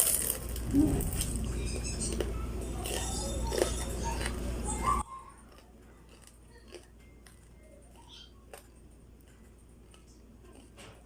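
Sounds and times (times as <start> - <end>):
chewing crispy food: 2.0 - 11.0.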